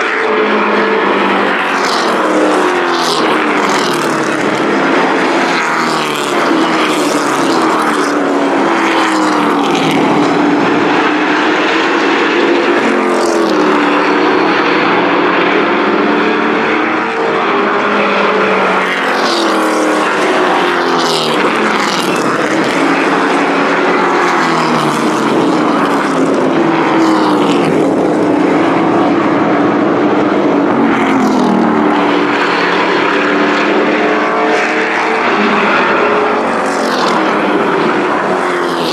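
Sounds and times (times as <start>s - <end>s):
race truck engines revving: 0.0s - 38.9s
trucks passing close by: 0.0s - 38.9s.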